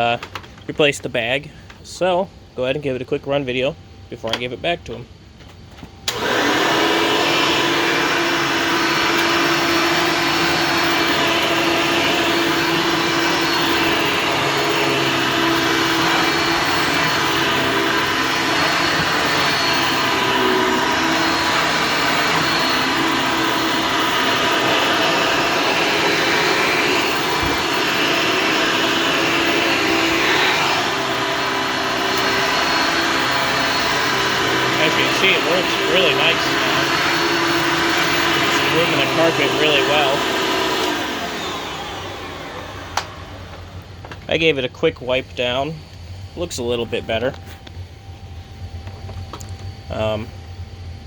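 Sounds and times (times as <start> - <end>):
vacuum cleaner motor whine: 4.2 - 51.0.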